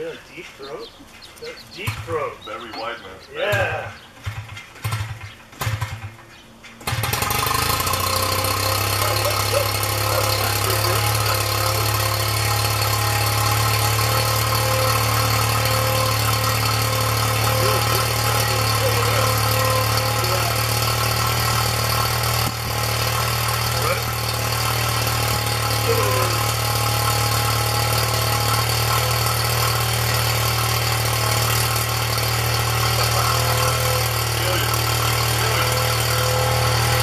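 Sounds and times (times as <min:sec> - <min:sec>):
engine pops: 0:01.1 - 0:37.0
model plane engine running: 0:06.8 - 0:37.0.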